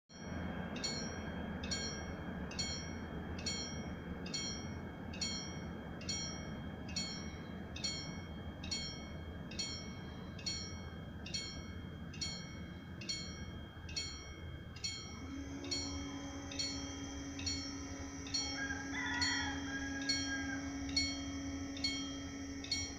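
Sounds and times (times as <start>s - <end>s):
level crossing warning bell: 0.1s - 22.9s
low background rumble: 0.2s - 22.9s
steady hum: 0.2s - 22.9s.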